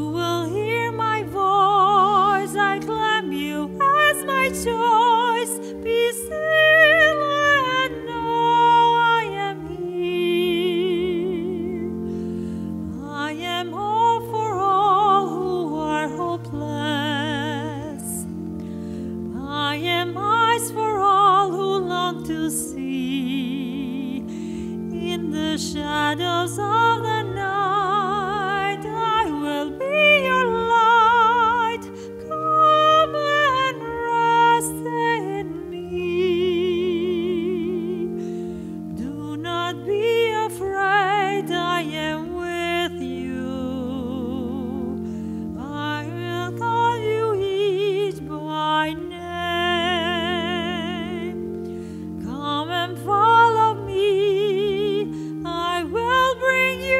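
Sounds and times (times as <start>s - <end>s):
long held chords: 0.0s - 56.9s
solo singing with vibrato: 0.0s - 56.9s.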